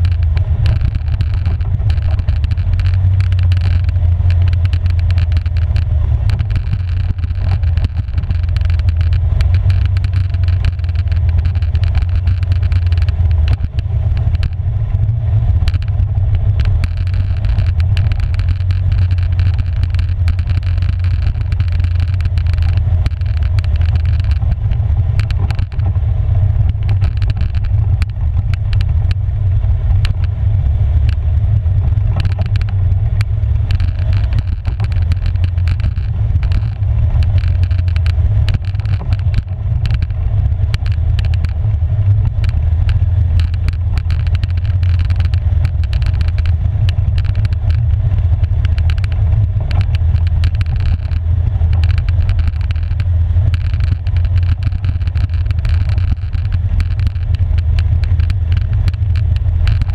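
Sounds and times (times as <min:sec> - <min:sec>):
atv engine running: 0:00.0 - 0:59.9
stones rattling and clicking: 0:00.0 - 0:59.9.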